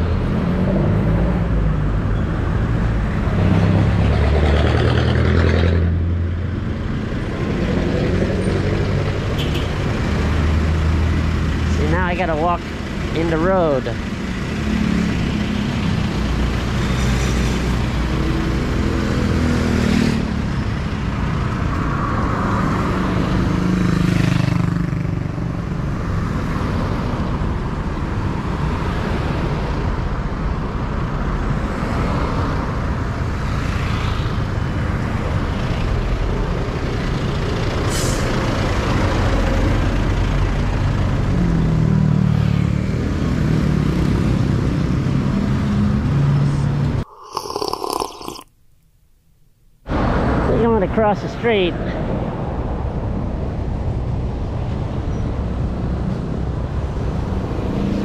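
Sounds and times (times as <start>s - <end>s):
cars and trucks passing: 0.0s - 48.4s, 49.9s - 58.0s.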